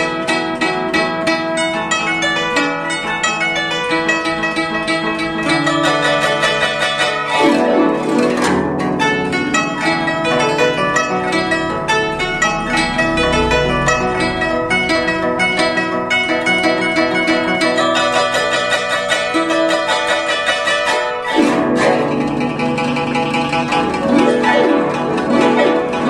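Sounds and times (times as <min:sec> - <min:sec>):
glissando across strings: 0:00.0 - 0:26.0
zither plucked notes: 0:00.0 - 0:26.0.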